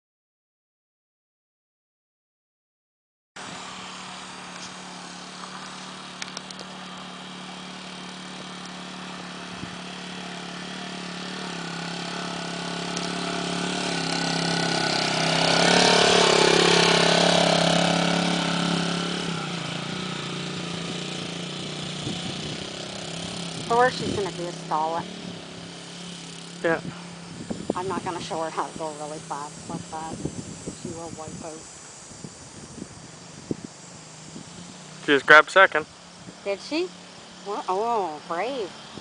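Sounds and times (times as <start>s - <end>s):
dirt bike engine running: 3.4s - 39.0s.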